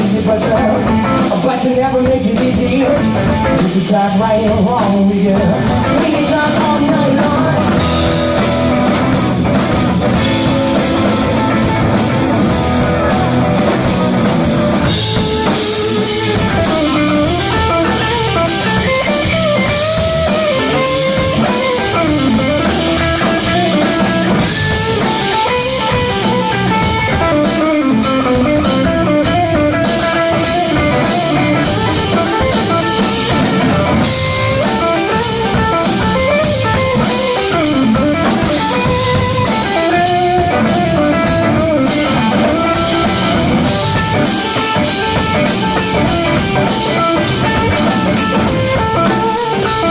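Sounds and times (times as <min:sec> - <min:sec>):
blues band playing live: 0:00.0 - 0:49.9
electric guitar lead line: 0:00.0 - 0:49.9.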